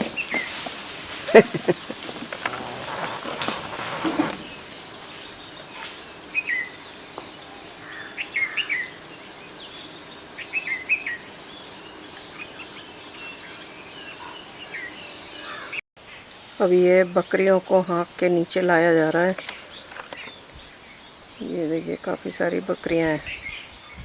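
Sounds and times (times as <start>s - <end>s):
insects hissing: 0.0s - 24.0s
songbirds chirping: 0.0s - 24.0s.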